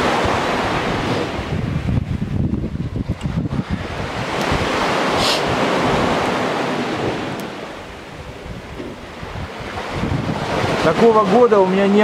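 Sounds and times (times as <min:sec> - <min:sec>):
surf washing onto pebble beach: 0:00.0 - 0:12.0
wind buffeting microphone: 0:00.0 - 0:12.0.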